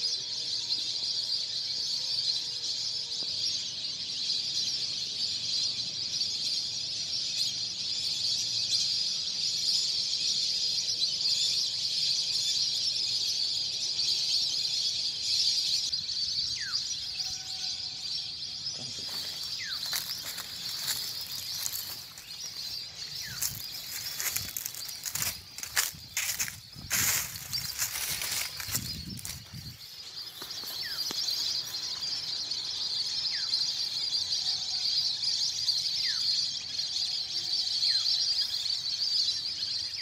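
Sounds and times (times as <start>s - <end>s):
flock of birds calling: 0.0s - 40.0s.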